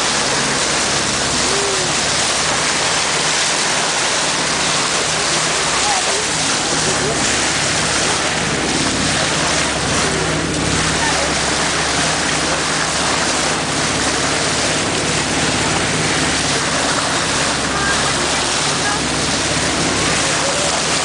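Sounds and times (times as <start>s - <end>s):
boat engine humming: 0.0s - 21.0s
water splashing along boat hull: 0.0s - 21.0s.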